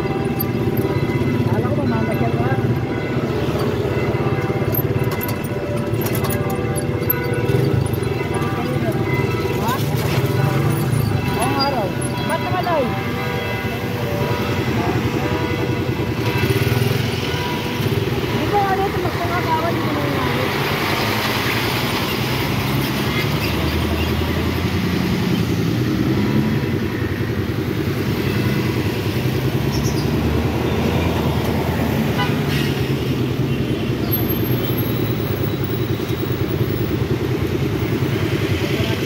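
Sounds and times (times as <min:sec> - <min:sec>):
street traffic passing: 0:00.0 - 0:39.0.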